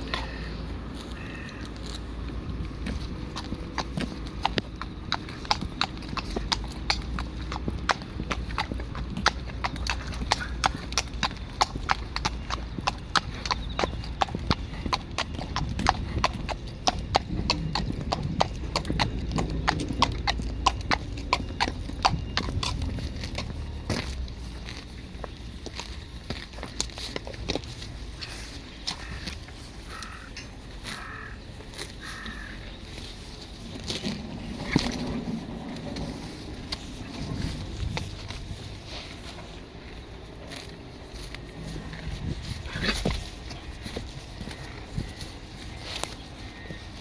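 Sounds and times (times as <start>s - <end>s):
hard clicking footsteps: 0.0s - 47.0s
steady low rumble: 0.0s - 47.0s.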